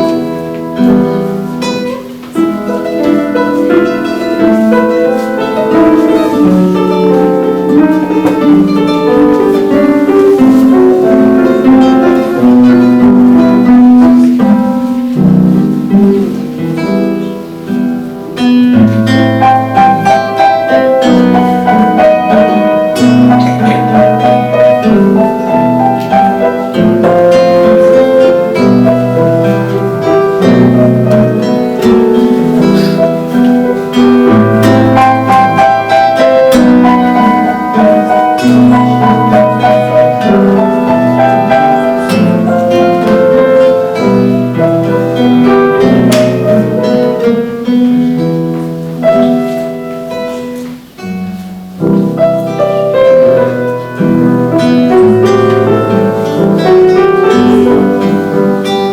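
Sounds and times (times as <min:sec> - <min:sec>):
classical guitar: 0:00.0 - 0:58.9
piano: 0:00.0 - 0:58.9.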